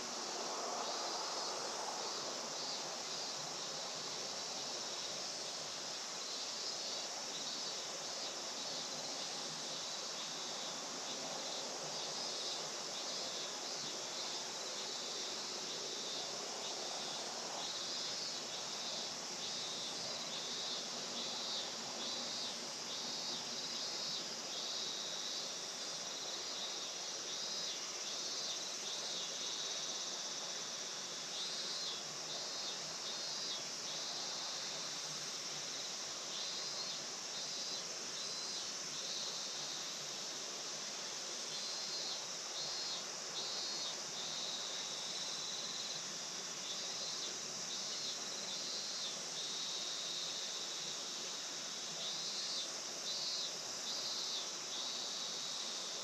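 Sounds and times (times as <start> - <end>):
insect trill: 0.0 - 56.0
rapid pulsed insect chirping: 0.0 - 56.0.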